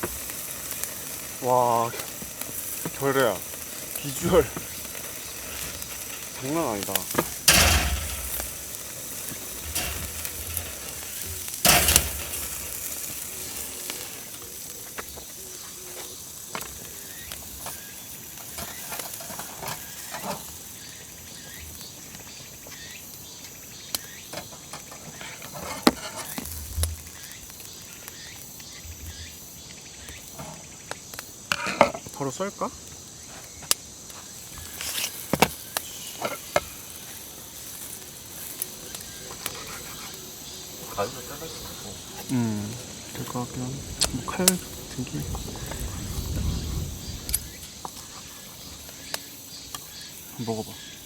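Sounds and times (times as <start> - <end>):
ribs sizzling on a grill: 0.0 - 51.0.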